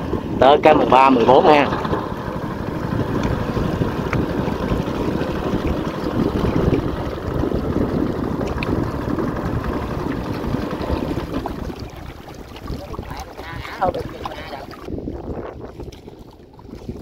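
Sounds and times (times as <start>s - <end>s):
boat moving across water: 0.0s - 17.0s
wind buffeting microphone: 0.0s - 17.0s.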